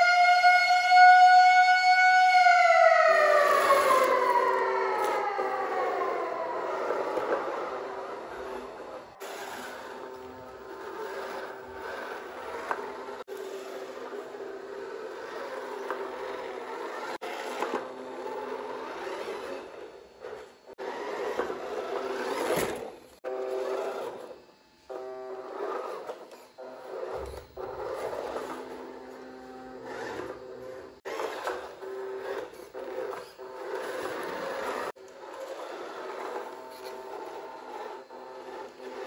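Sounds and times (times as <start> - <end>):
toy car motor whining: 3.5 - 39.0.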